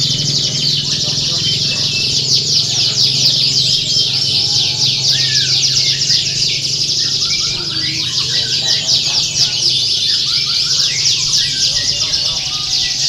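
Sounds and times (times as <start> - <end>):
steady low hum: 0.0 - 12.4
canaries singing: 0.0 - 13.0.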